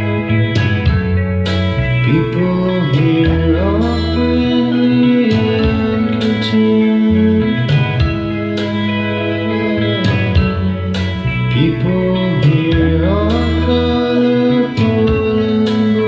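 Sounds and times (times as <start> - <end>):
guitars playing: 0.0 - 16.0
slide guitar notes: 0.0 - 16.0
person singing: 1.9 - 16.0.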